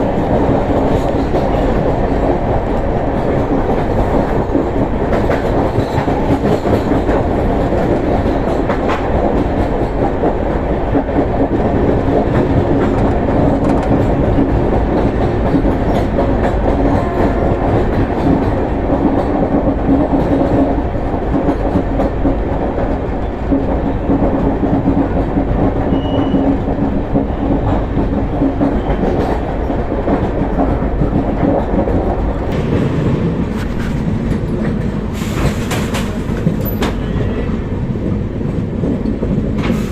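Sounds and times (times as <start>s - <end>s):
clickety-clack over rail joints: 0.0s - 39.9s
train rumbling on rails: 0.0s - 39.9s.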